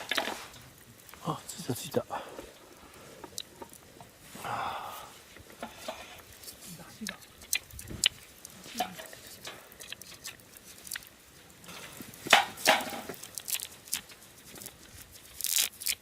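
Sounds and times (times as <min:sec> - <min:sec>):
firewood crackling: 0:00.0 - 0:16.0.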